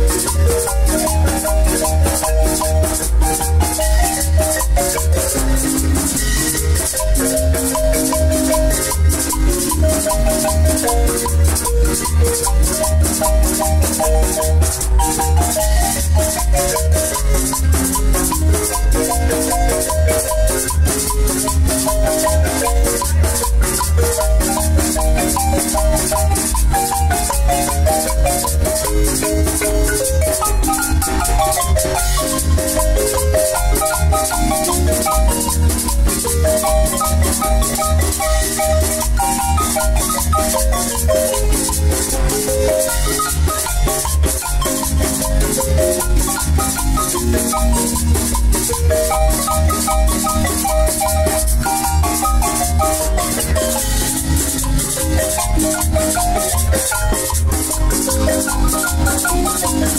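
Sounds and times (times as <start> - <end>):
marimba band playing dance music: 0.0 - 59.9
metal shaker: 0.0 - 59.9
pulsing bass beat: 0.0 - 59.9.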